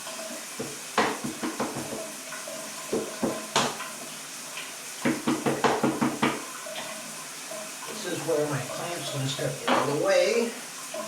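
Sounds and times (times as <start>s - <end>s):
shower running hiss: 0.0s - 11.0s.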